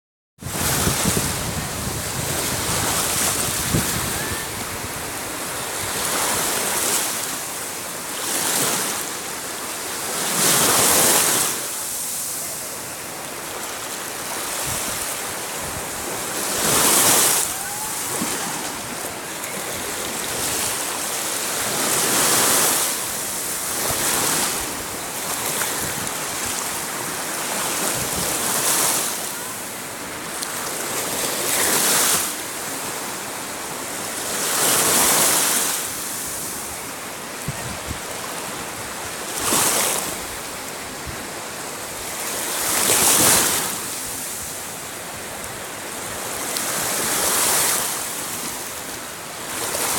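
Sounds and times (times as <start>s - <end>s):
small waves washing over sand: 0.4s - 49.9s.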